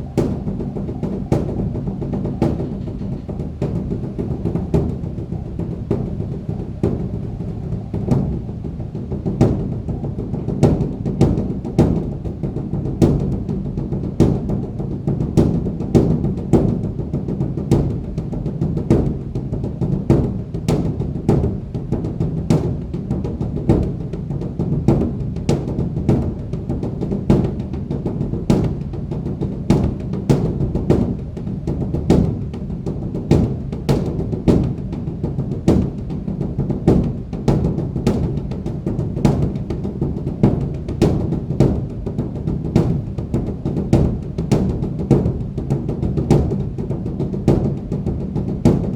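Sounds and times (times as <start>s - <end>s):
large drum beaten with sticks: 0.0s - 48.9s.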